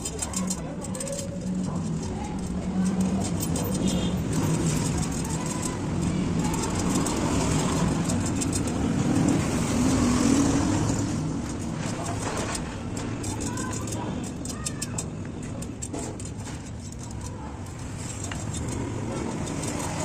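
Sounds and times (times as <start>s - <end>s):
street traffic: 0.0s - 20.0s
vehicle engine running: 0.0s - 20.0s.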